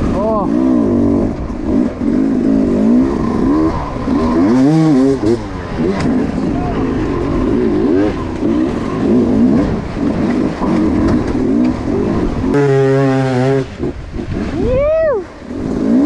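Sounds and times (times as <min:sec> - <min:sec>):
dirt bike engine revving: 0:00.0 - 0:14.8, 0:15.4 - 0:16.0.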